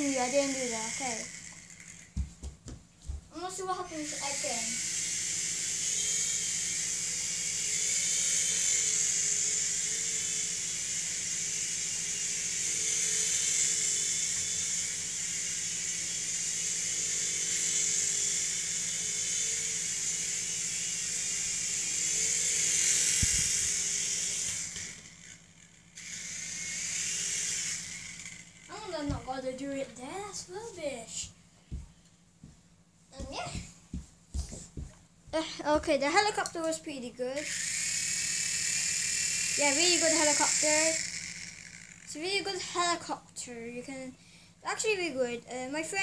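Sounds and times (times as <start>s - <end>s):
toy helicopter rotors whining: 0.0s - 2.3s, 3.3s - 31.3s, 35.6s - 46.0s.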